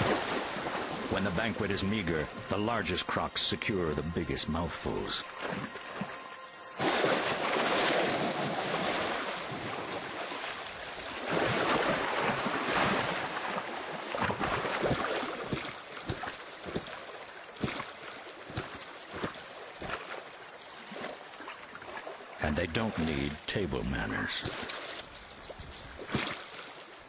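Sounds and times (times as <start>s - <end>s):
water splashing and churning: 0.0s - 27.0s.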